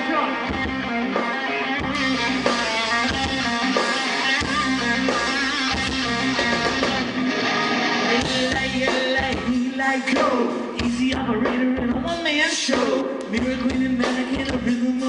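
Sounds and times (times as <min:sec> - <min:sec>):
steady drum beat: 0:00.0 - 0:14.8
bass guitar: 0:00.0 - 0:15.0
electric guitars: 0:00.0 - 0:15.0.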